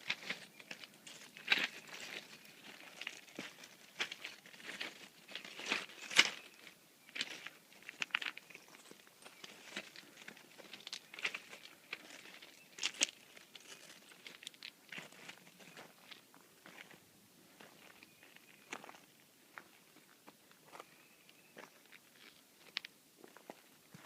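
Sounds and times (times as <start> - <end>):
footsteps crunching on gravel: 0.0 - 24.0.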